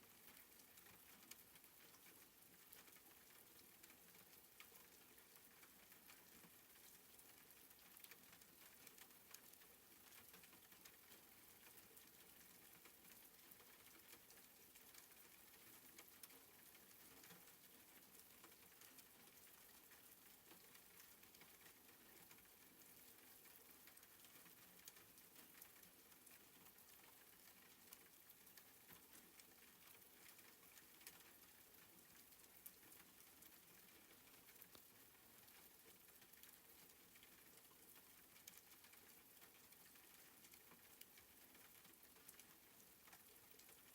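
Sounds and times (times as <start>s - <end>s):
soft rain patter: 0.0s - 43.9s.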